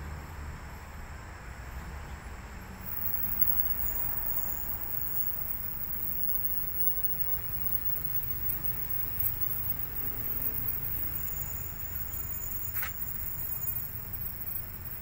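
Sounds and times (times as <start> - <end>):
faint hiss: 2.9 - 15.0.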